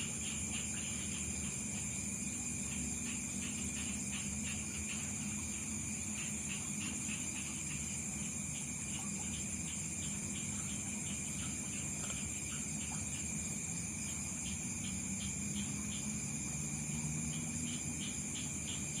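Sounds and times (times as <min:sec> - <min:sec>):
short insect chirp: 0:00.0 - 0:19.0.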